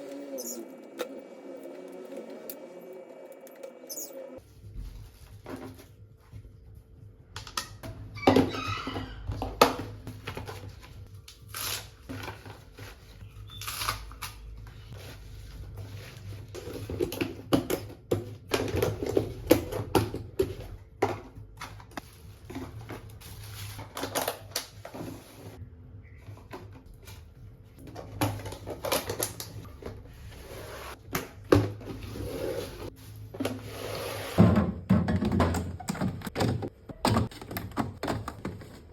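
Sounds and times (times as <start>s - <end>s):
groceries put away in fridge: 7.7s - 38.9s.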